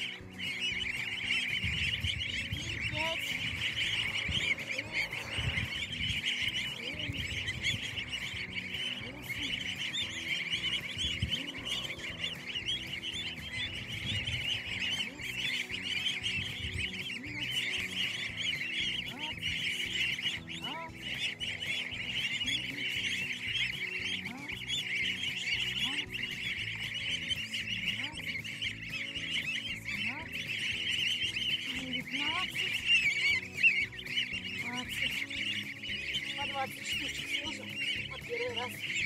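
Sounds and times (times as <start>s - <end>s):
goslings peeping: 0.0s - 39.0s.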